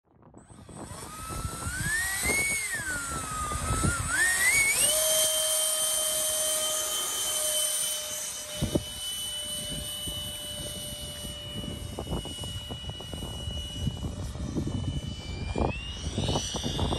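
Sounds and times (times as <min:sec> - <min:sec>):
electric ducted fan whining: 0:00.2 - 0:16.9.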